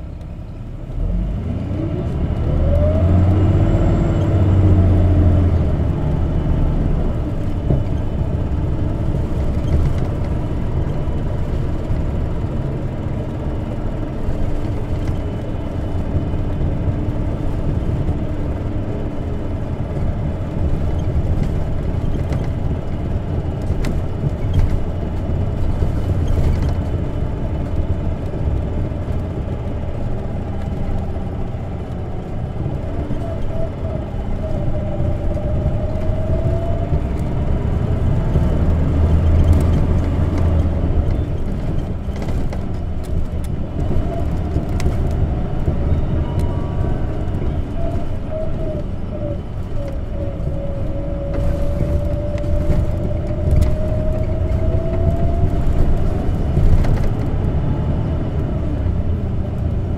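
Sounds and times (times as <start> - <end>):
bus engine accelerating and rumbling: 0.0 - 59.9.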